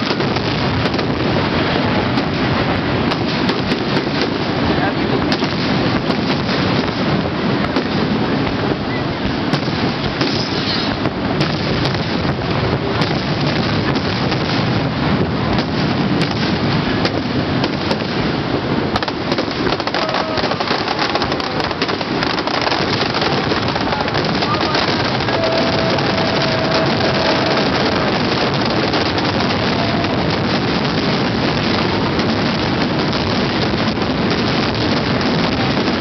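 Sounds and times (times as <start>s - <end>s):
fireworks popping and crackling: 0.0s - 36.0s
waterfall roaring: 0.0s - 36.0s.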